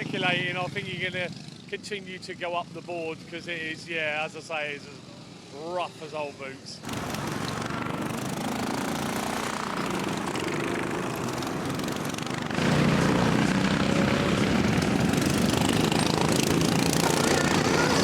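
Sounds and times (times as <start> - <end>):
racing lawnmower engines: 0.0 - 18.0.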